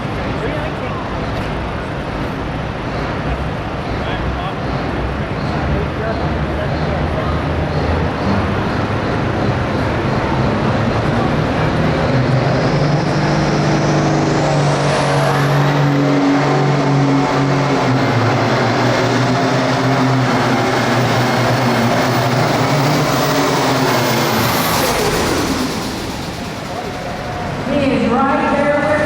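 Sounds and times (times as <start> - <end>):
diesel tractor engine under load: 0.0 - 29.0.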